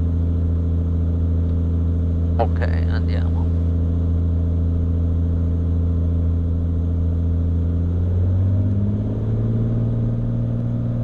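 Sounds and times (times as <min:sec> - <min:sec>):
propeller plane engine: 0:00.0 - 0:11.0.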